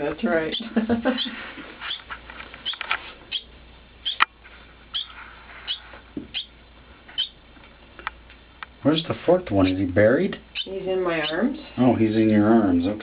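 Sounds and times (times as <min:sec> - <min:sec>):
young birds chirping: 0:00.0 - 0:13.0.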